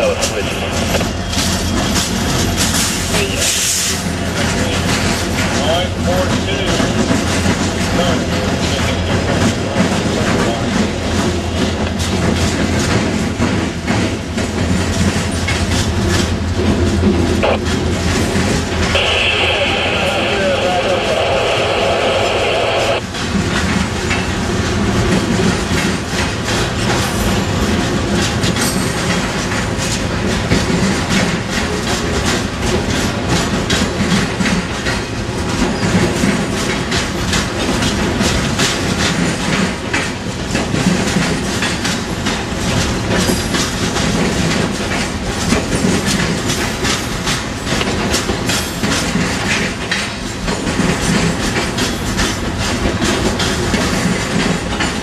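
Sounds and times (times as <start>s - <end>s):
wheels clacking over rail joints: 0.0s - 19.3s, 23.0s - 55.0s
train wheels rumbling on rail: 0.0s - 55.0s.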